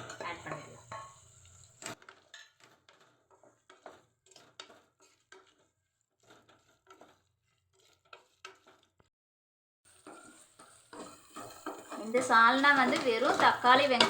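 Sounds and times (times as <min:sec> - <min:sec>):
spoon scraping a pan: 0:00.0 - 0:09.1, 0:09.9 - 0:14.0.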